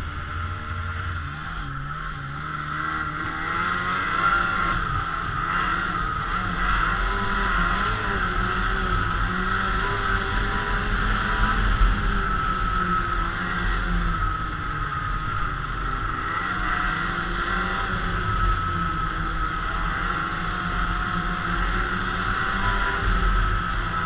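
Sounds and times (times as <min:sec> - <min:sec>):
snowmobile engine running: 0:00.0 - 0:24.0
whir of drive and track: 0:00.0 - 0:24.0.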